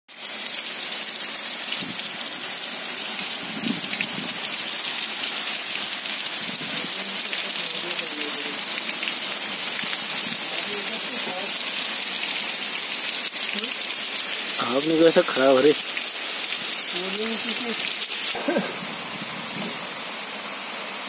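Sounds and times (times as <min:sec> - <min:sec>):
heavy rain pouring on trees and stone: 0:00.1 - 0:21.0.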